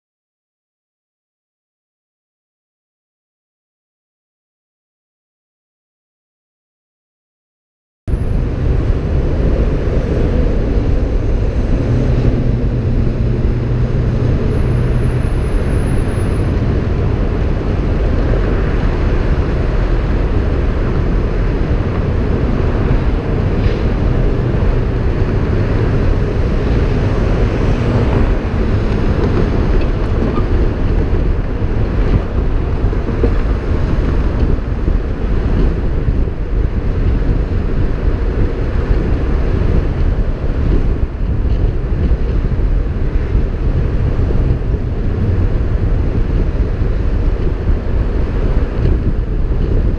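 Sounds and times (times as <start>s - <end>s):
road and tyre noise: 8.1s - 49.9s
wind buffeting microphone: 8.1s - 49.9s.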